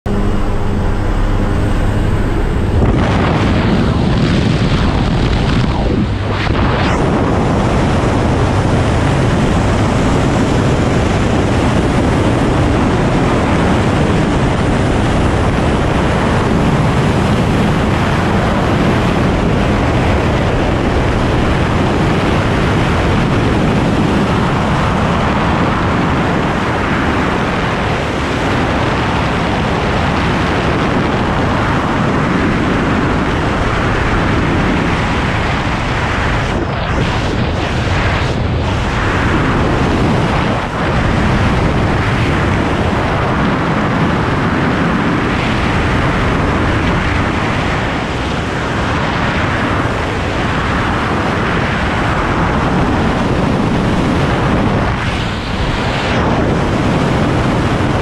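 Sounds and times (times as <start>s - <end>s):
low aircraft drone: 0.0s - 58.0s
wind buffeting microphone: 0.0s - 58.0s.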